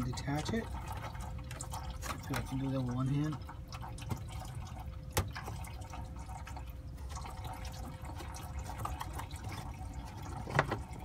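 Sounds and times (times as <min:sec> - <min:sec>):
coolant trickling into pan: 0:00.0 - 0:11.0.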